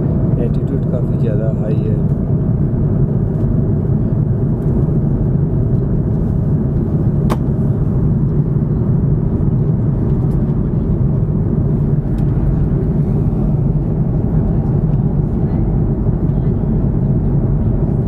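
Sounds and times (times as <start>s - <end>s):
airliner cabin engine roar: 0.0s - 18.0s.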